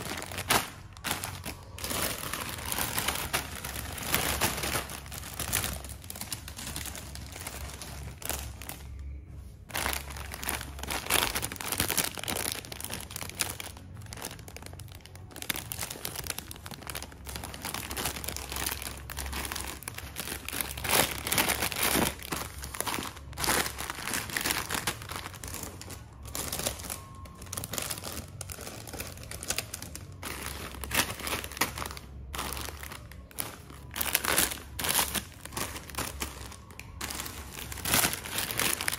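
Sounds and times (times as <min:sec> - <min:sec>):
plastic snack bags crinkling: 0:00.0 - 0:38.9.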